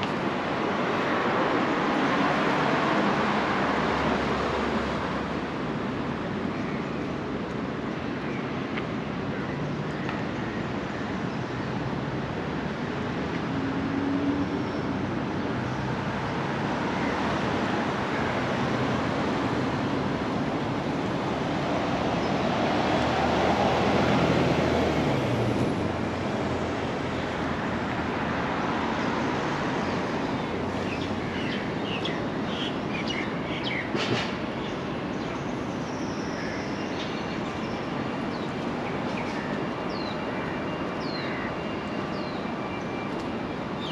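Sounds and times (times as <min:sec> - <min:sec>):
city traffic: 0:00.0 - 0:43.9.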